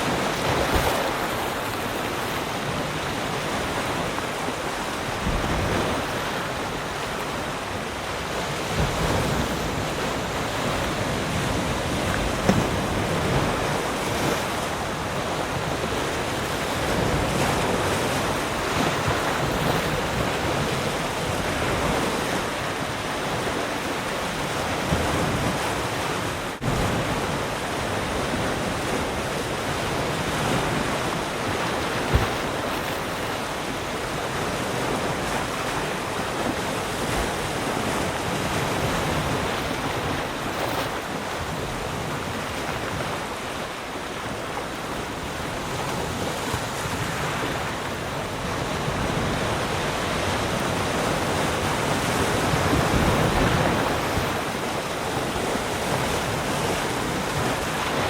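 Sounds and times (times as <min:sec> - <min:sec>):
ocean waves washing onto shore: 0:00.0 - 0:58.0.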